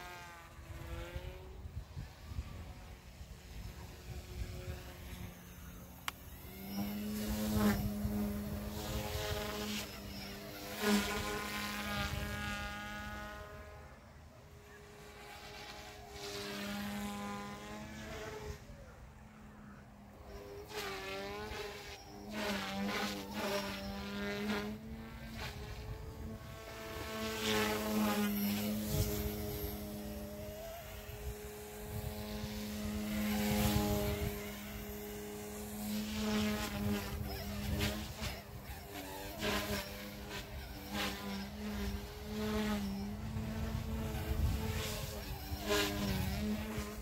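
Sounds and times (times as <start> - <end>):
toy helicopter buzzing whine: 0.0 - 47.0.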